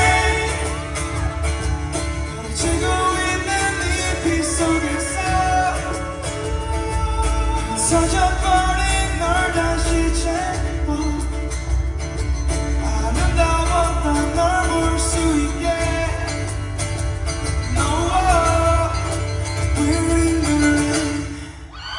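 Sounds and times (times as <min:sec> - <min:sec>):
live band music: 0:00.0 - 0:21.7.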